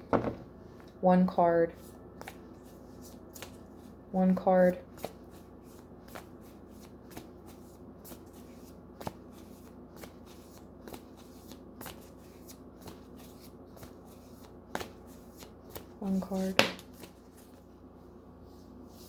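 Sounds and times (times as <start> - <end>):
cards being shuffled by hand: 1.8 - 4.0, 4.7 - 17.7.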